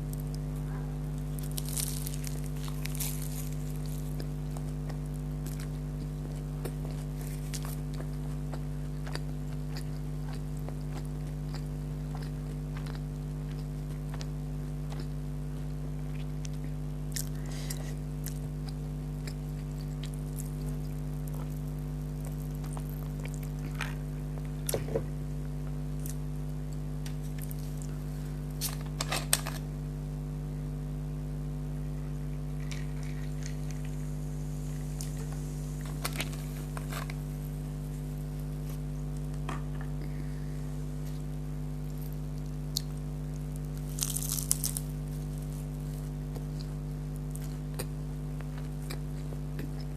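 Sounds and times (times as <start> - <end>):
crunching and chewing food: 0.0 - 29.7, 32.0 - 49.9
low electrical hum: 0.0 - 49.9.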